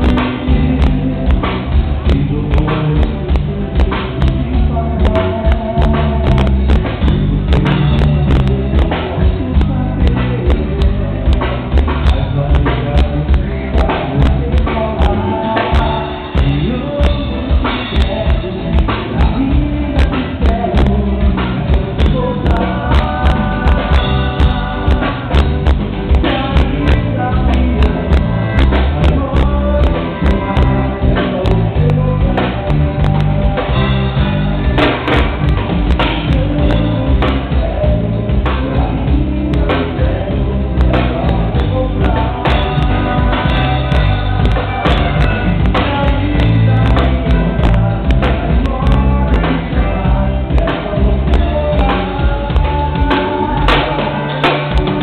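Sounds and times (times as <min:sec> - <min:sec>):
drum kit beat: 0:00.0 - 0:55.0
person singing: 0:00.0 - 0:55.0.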